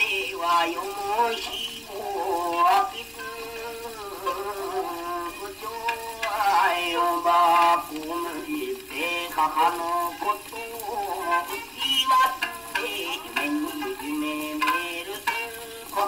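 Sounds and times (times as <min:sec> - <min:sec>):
man singing narrative song: 0:00.0 - 0:16.0
record crackle and hiss: 0:00.0 - 0:16.0
shamisen: 0:00.0 - 0:16.0.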